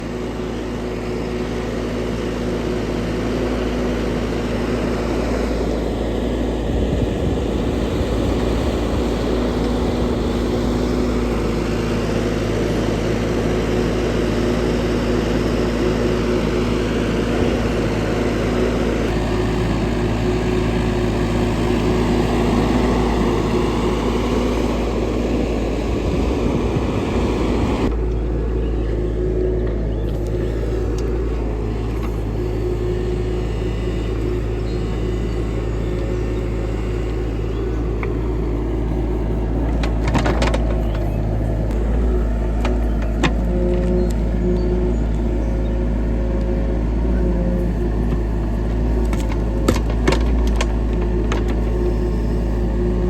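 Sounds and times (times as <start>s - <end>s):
engine running steadily: 0.0s - 53.0s.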